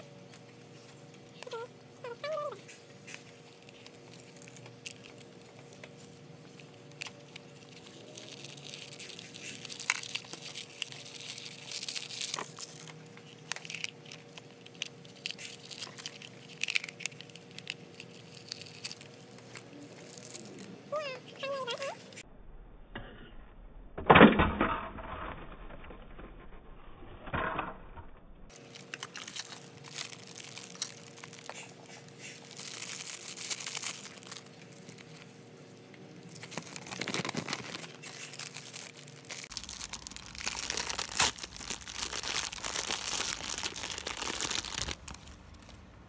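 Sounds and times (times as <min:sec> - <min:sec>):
plastic and foil crinkling and tearing: 0:00.0 - 0:22.2, 0:28.5 - 0:45.9.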